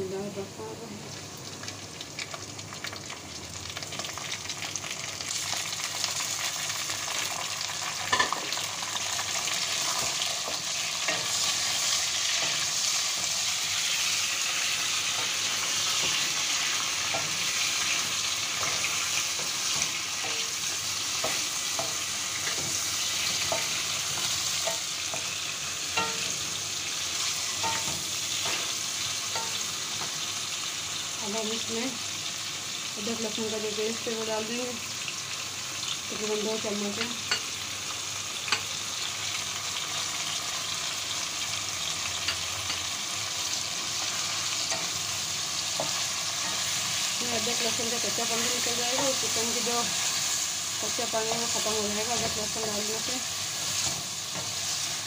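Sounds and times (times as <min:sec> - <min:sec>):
chicken sizzling in hot oil: 0:00.0 - 0:55.0.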